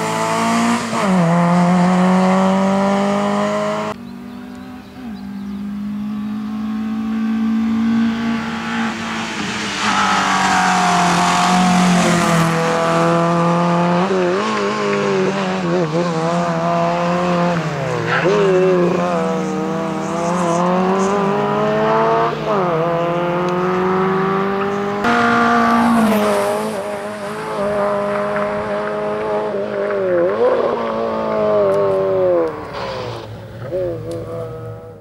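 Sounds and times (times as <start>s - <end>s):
rally car engine revving hard: 0.0s - 35.0s.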